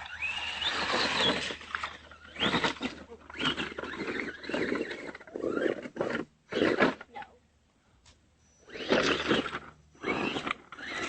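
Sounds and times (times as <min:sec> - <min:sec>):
toy car motor whining: 0:00.0 - 0:07.3, 0:08.6 - 0:11.0.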